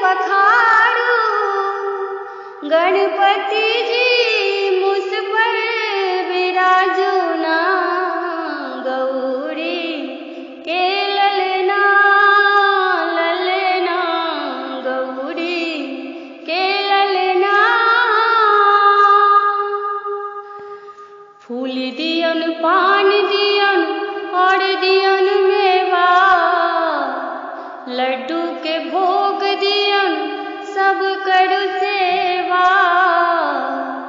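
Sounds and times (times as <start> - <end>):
woman singing devotional song: 0.0 - 34.0.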